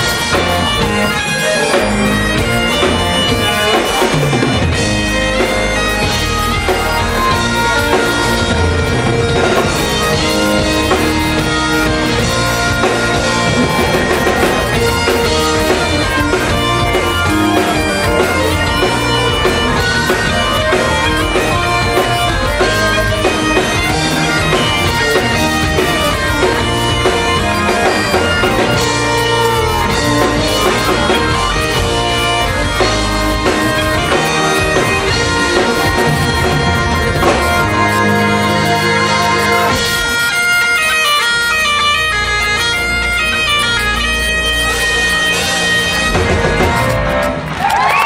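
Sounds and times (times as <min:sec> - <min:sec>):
bagpipes playing melody with drone: 0:00.0 - 0:48.0
bass guitar: 0:00.0 - 0:48.0
drum kit: 0:00.0 - 0:48.0
electric guitar: 0:00.0 - 0:48.0.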